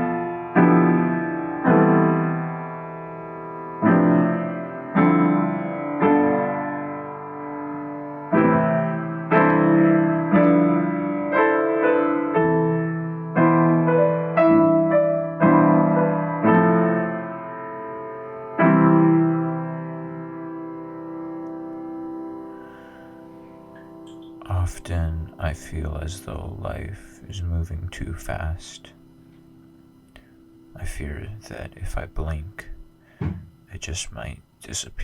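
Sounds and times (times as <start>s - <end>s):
solo piano chords: 0.0s - 33.7s.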